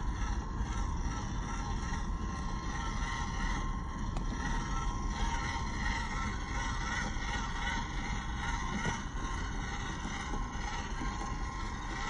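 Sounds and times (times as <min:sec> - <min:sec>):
toy truck motor whining: 0:00.0 - 0:12.0.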